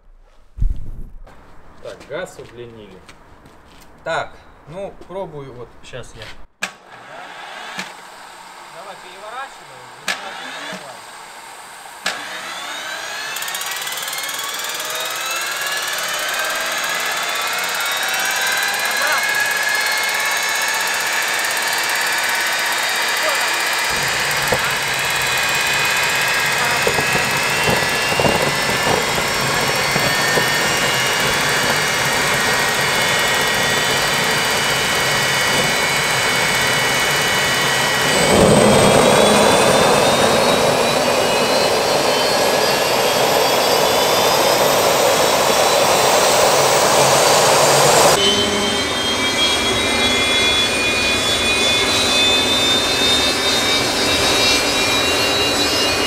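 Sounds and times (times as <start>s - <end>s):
turbojet engine whine and roar: 6.8s - 56.0s.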